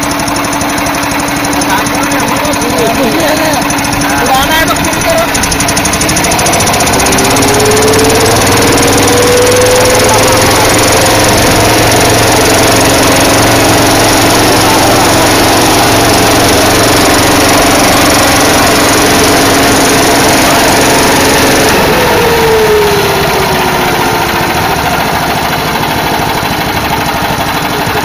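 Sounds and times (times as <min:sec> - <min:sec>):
blower air rushing: 0:00.0 - 0:28.0
small petrol engine running: 0:00.0 - 0:28.0.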